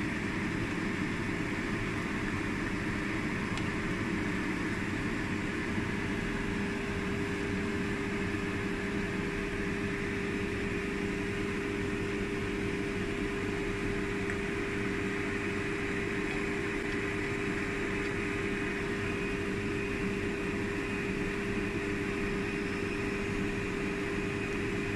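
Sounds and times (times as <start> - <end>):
fan motor humming: 0.0 - 24.9.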